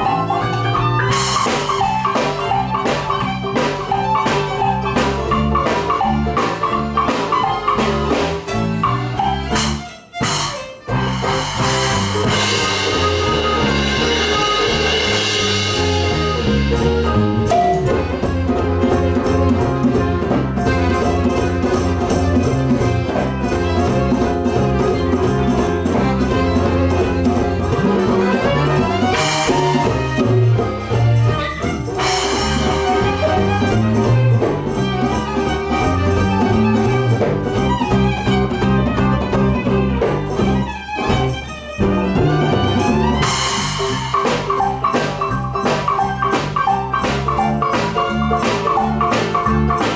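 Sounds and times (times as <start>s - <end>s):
live band playing upbeat music: 0.0s - 49.9s.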